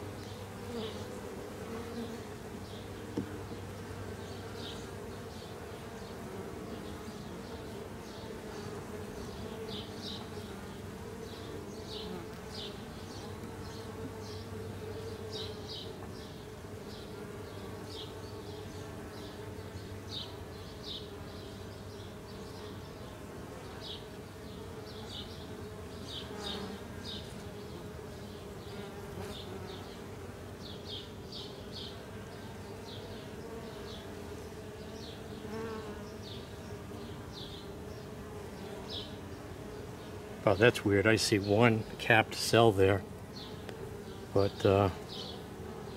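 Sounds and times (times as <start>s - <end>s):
bees buzzing: 0.0s - 45.9s.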